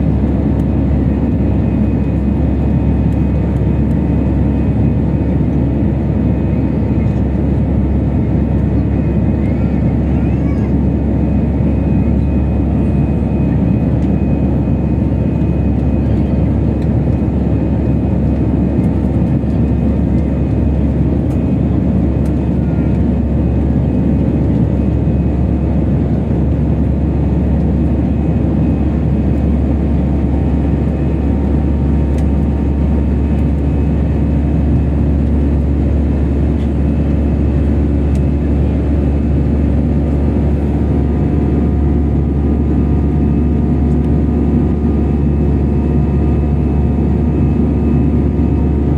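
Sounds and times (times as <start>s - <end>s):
jet engines roaring: 0.0s - 48.9s.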